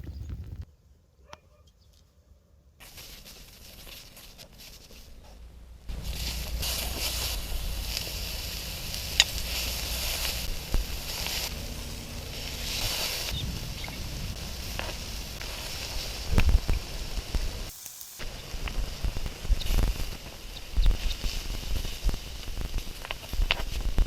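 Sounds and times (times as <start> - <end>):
rice sizzling on a griddle: 2.8 - 5.1, 5.9 - 24.0.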